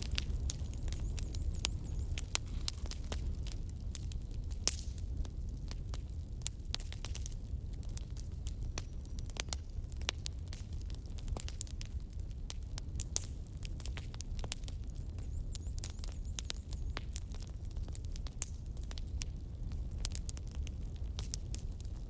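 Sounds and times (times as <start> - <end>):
crackling and popping: 0.0 - 22.0.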